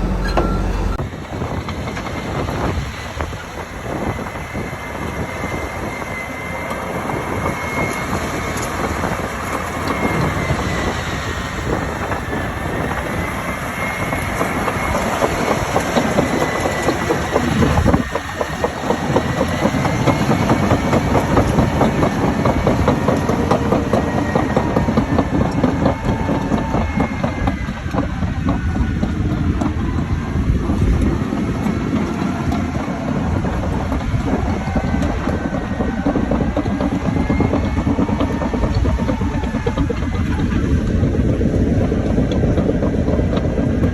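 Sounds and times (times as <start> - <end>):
high wavering whine: 0.0 - 40.9
diesel engine under load: 0.0 - 43.9
steel tracks clattering: 0.0 - 43.9.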